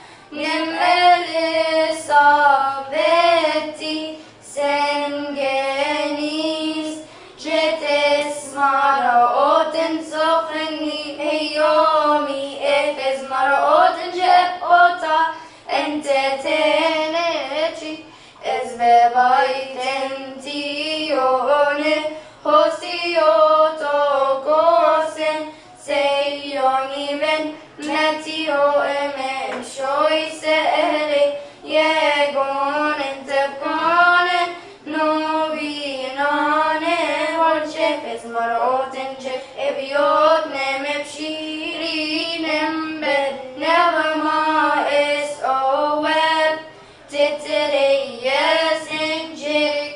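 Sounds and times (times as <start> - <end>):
girls singing a hymn: 0.0 - 49.9.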